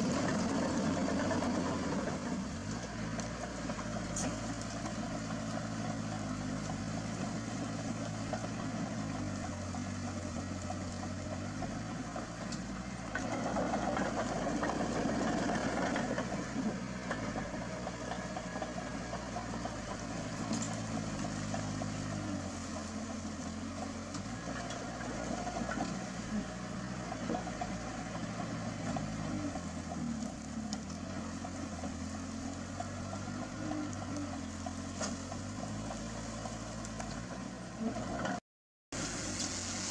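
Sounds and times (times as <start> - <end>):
diesel engine of heavy machine: 0.0 - 39.9.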